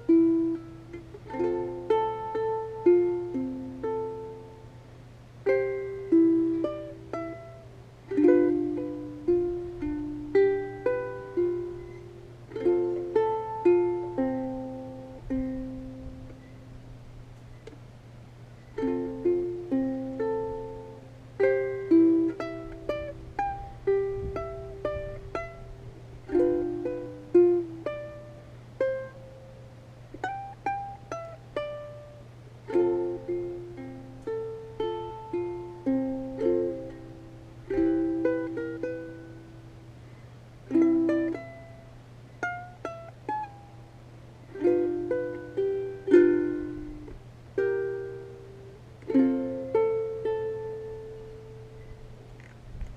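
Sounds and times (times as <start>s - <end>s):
plucked string instrument melody: 0.0s - 4.8s, 5.4s - 16.9s, 18.6s - 52.5s
steady low hum: 0.0s - 52.9s.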